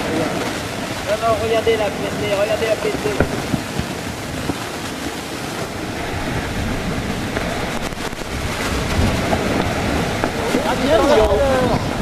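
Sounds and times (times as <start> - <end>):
volcano eruption roar: 0.0 - 12.0
wind on microphone: 0.0 - 12.0.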